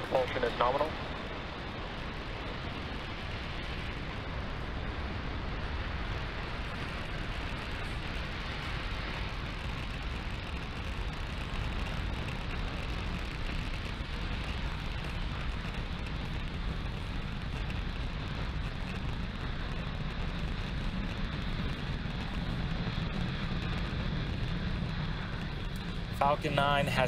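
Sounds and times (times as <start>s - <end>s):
rocket exhaust rumble: 0.0s - 27.0s.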